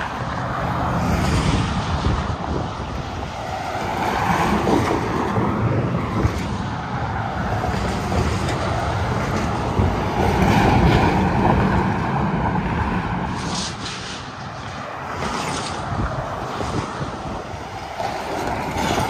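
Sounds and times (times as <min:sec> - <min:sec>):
highway traffic passing: 0:00.0 - 0:19.0.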